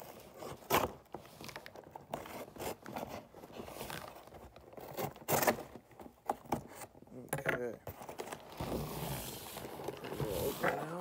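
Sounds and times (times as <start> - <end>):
cardboard scraping: 0.0 - 7.0, 7.8 - 11.0.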